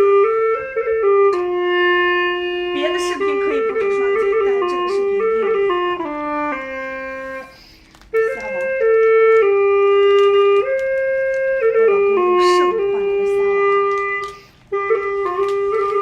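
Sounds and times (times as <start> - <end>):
woodwind-like melody: 0.0 - 16.0.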